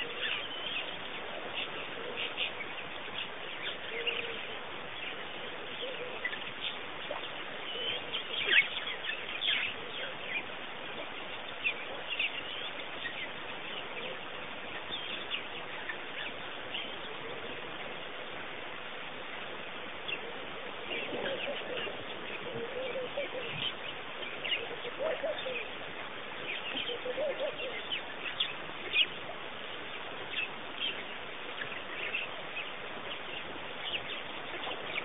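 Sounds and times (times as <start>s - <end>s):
birds chirping: 0.0s - 35.0s
steady background hiss: 0.0s - 35.0s.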